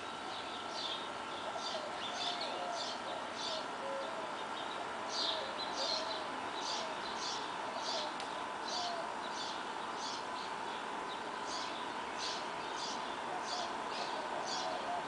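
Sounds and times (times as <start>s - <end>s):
birds chirping: 0.0s - 15.0s
traffic hum: 0.0s - 15.0s.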